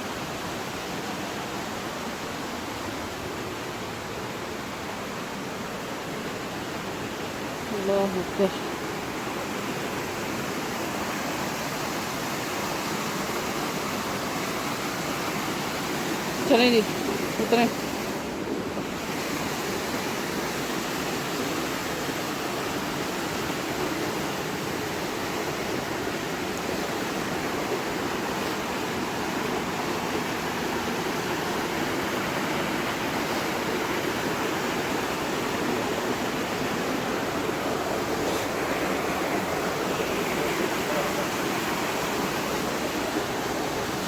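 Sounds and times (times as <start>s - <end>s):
mountain stream rushing: 0.0s - 44.0s.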